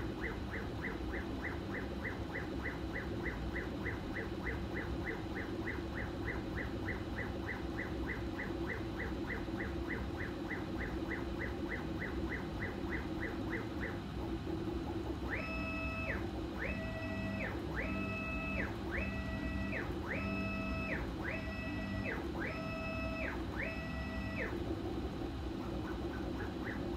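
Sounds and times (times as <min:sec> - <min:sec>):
steady hum: 0:00.0 - 0:26.9.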